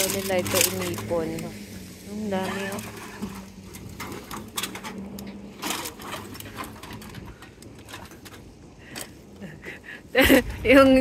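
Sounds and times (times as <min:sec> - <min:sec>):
bags of cans rustling and clinking: 0:00.0 - 0:09.4.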